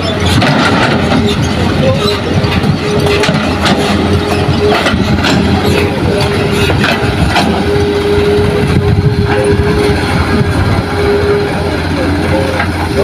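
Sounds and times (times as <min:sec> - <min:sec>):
dump truck engine idling: 0:00.0 - 0:13.0
excavator diesel engine under load: 0:00.0 - 0:13.0
steady whine: 0:00.0 - 0:13.0.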